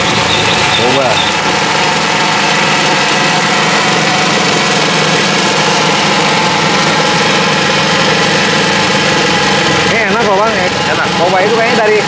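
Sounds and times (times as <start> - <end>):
blender motor whirring: 0.0 - 12.0.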